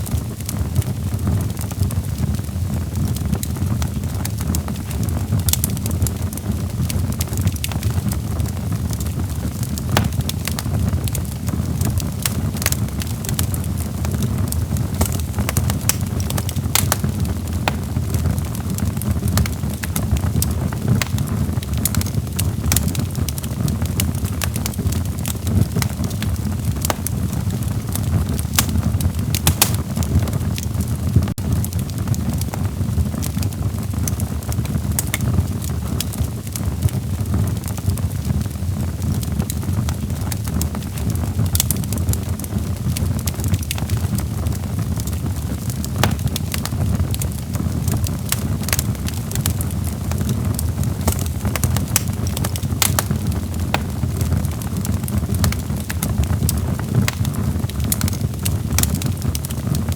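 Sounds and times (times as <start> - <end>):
logs crackling in fireplace: 0.0 - 59.9
low rumble of flames: 0.0 - 59.9.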